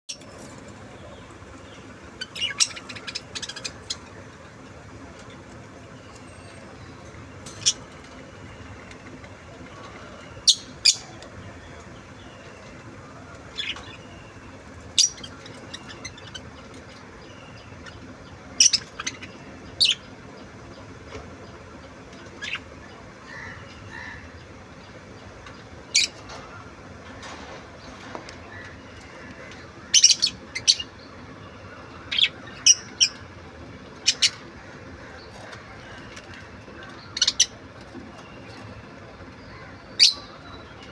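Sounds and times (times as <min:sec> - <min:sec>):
faint background noise: 0:00.1 - 0:40.9.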